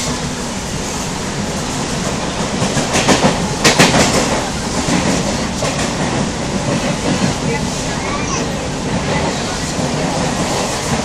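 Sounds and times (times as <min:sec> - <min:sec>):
train running noise: 0:00.0 - 0:11.0
wheels clickety-clack on rail joints: 0:00.0 - 0:11.0.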